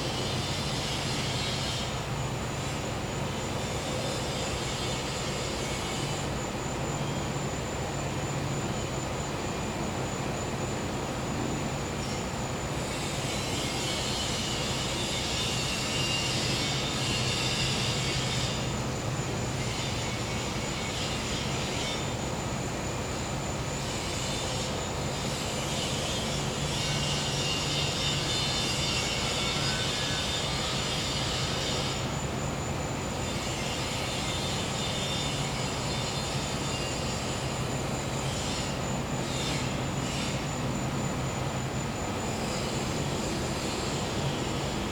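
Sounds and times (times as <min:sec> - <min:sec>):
cicada buzzing: 0:00.0 - 0:09.0, 0:09.6 - 0:44.9
cricket trill: 0:00.0 - 0:44.9.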